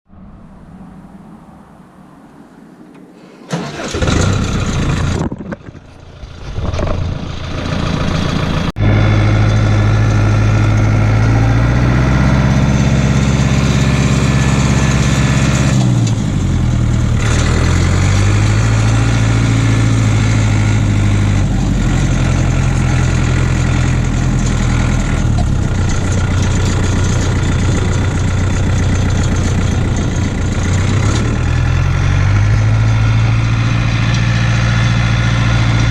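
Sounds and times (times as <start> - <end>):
diesel tractor engine running: 2.6 - 35.9
diesel tractor engine cranking: 2.8 - 35.9.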